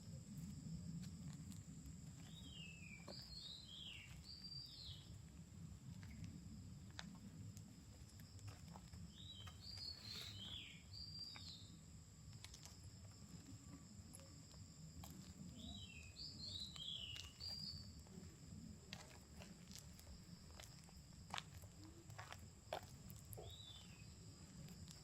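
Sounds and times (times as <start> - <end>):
faint low rumble: 0.0 - 25.0
insects droning: 0.0 - 25.0.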